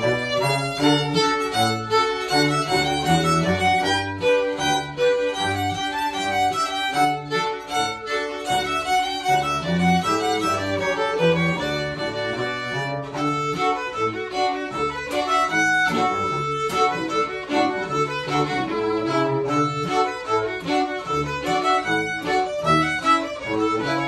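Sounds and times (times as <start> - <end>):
cello bass line: 0.0 - 24.0
violins playing melody: 0.0 - 24.0.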